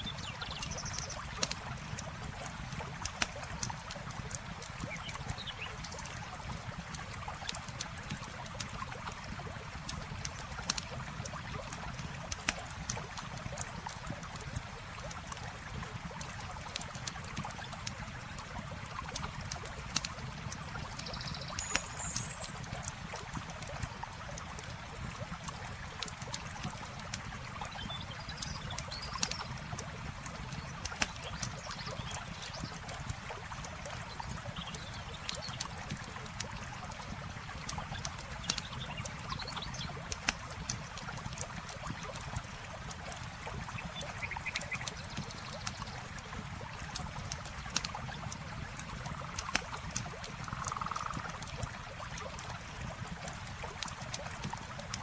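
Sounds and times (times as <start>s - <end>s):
river water flowing: 0.0s - 55.0s
campfire crackling and popping: 0.2s - 55.0s.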